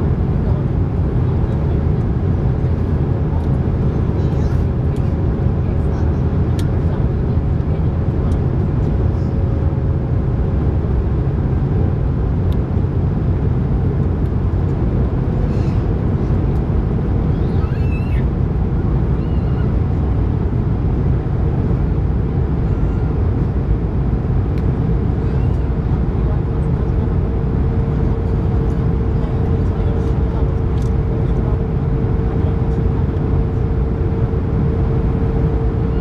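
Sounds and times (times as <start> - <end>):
faint hum: 0.0 - 36.0
jet engines rumbling: 0.0 - 36.0.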